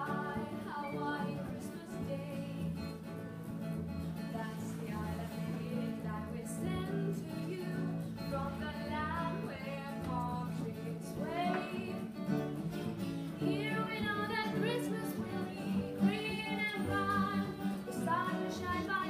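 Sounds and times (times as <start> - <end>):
women singing: 0.0 - 3.2, 4.3 - 12.4, 13.3 - 19.0
acoustic guitar: 0.0 - 19.0
cello: 0.0 - 19.0.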